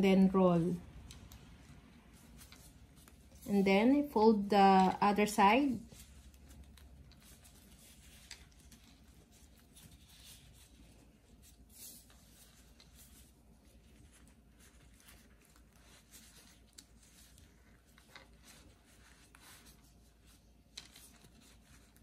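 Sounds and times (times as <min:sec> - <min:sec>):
leaf and gloves rustling: 0:00.0 - 0:22.0.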